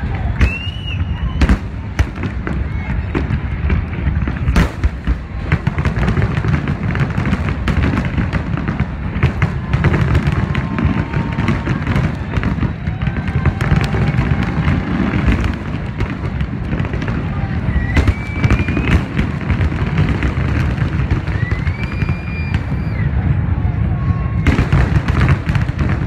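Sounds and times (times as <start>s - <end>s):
fireworks cracks and bursts: 0.0s - 26.0s.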